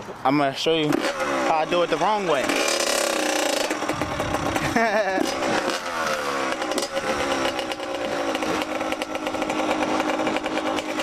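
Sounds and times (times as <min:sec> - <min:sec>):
dirt bike engine revving and idling: 0:00.7 - 0:11.0.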